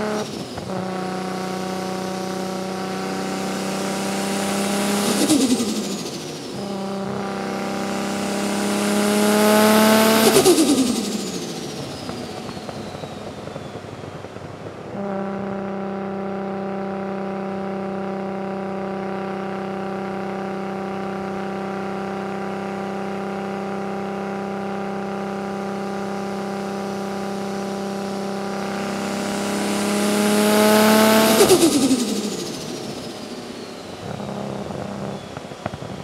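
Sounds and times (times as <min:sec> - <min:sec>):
car engine droning in cabin: 0:00.0 - 0:36.0.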